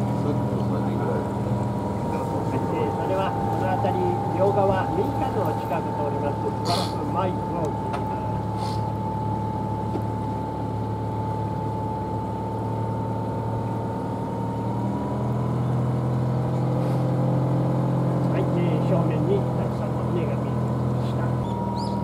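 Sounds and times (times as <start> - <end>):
boat engine running steadily: 0.0 - 22.0.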